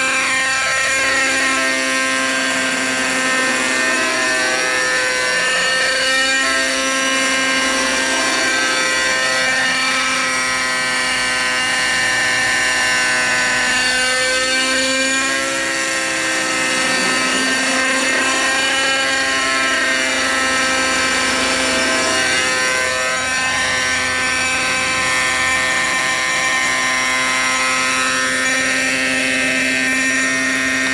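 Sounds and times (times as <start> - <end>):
model helicopter engine and rotors: 0.0 - 30.9.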